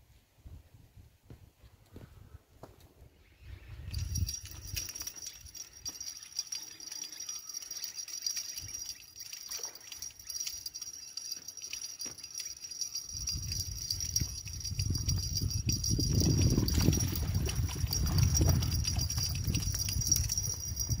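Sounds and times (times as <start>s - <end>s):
fishing reel clicking and rattling: 3.9s - 21.0s.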